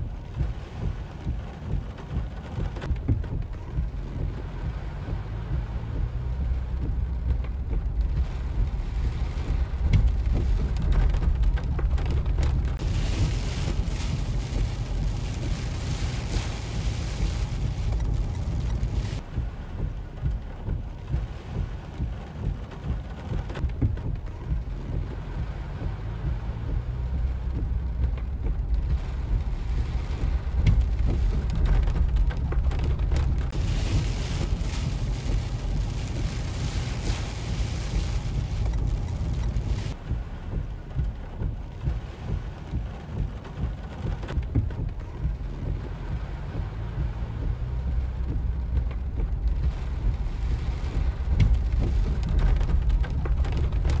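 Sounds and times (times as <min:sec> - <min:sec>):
rain hissing on car roof: 0:00.0 - 0:54.0
wind rumbling: 0:00.0 - 0:54.0.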